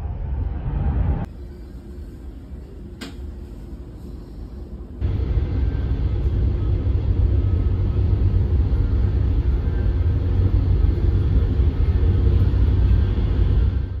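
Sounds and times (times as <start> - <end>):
train running gear rumble: 0.0 - 14.0.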